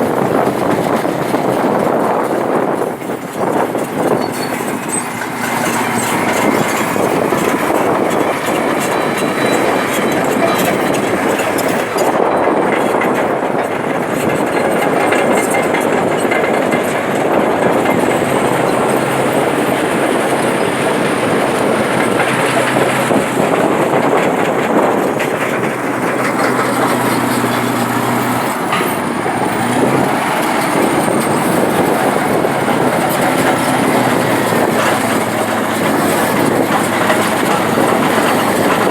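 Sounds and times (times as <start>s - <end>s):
excavator engine running: 0.0s - 38.9s
knocks and clanks: 0.1s - 38.9s.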